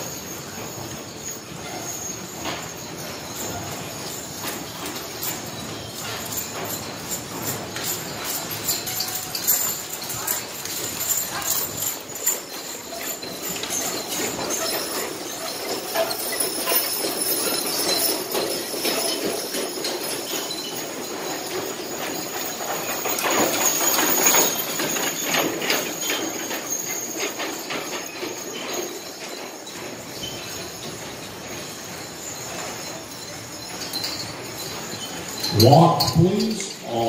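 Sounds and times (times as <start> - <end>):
harness chains jingling: 0.0 - 37.0
wagon wheels rattling: 0.0 - 37.0.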